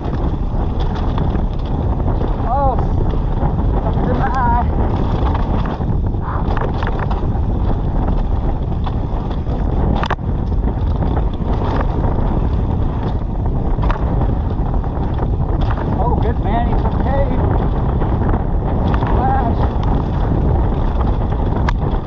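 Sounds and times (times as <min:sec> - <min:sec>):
bike clicks and knocks: 0:00.0 - 0:22.0
wind buffeting microphone: 0:00.0 - 0:22.0.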